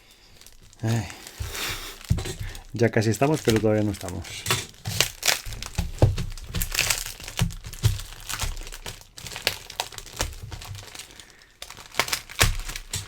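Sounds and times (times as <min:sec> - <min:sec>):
wrapping crinkling and tearing: 0:00.0 - 0:13.0.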